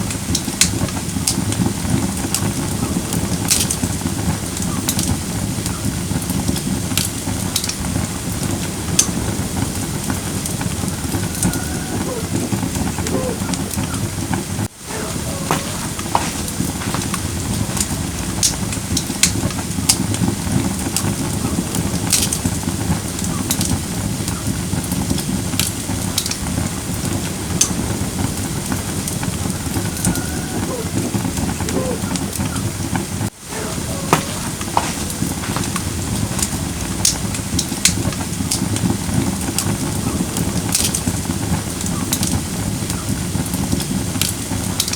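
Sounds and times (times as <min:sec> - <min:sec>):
fire crackling and popping: 0:00.0 - 0:44.9
flame rushing: 0:00.0 - 0:44.9.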